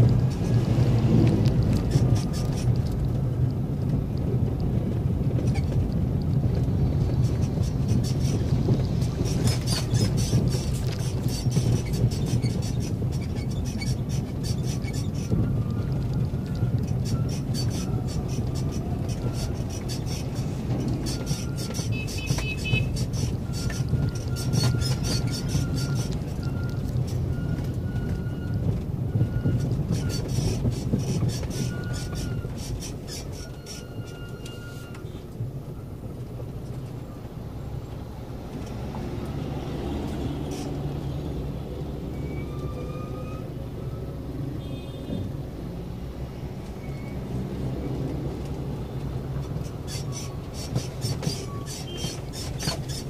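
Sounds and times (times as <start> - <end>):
traffic engine and road rumble: 0.0 - 53.0.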